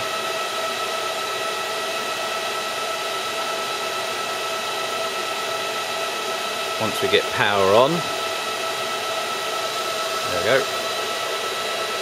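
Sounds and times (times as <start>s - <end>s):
server cooling fans running: 0.0s - 12.0s.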